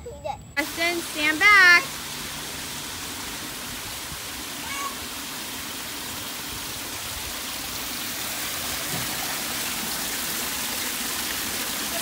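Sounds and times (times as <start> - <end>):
water splashing on metal grate: 0.6 - 12.0.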